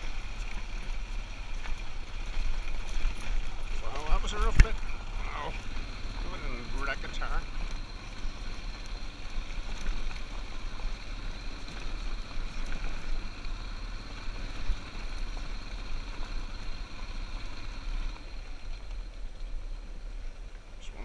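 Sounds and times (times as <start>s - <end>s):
motorcycle engine under load: 0.0s - 21.0s.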